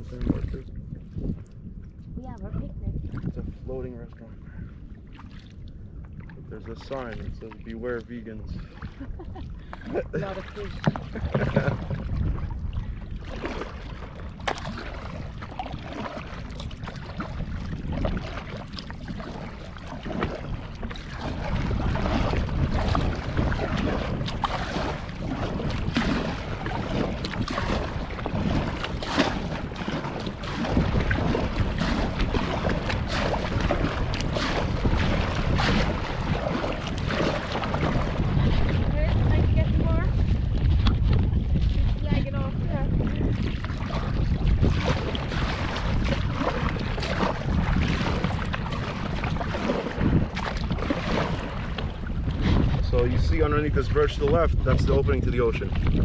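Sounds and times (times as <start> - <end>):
water lapping against kayak: 0.0 - 56.0
wind buffeting microphone: 0.0 - 56.0
short paddle splashes: 4.5 - 56.0.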